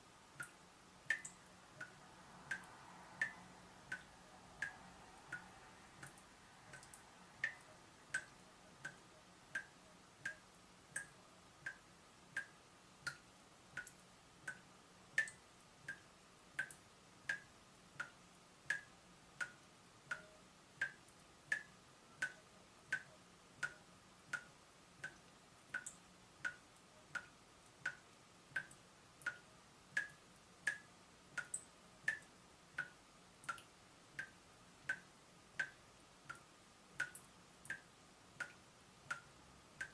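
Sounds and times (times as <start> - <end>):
water dripping from a tap: 0.4 - 39.9.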